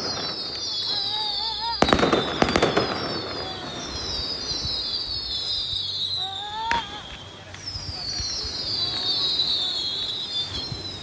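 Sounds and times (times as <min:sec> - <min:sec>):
fireworks bangs and crackling: 0:00.0 - 0:11.0
fireworks whistles falling in pitch: 0:00.0 - 0:11.0.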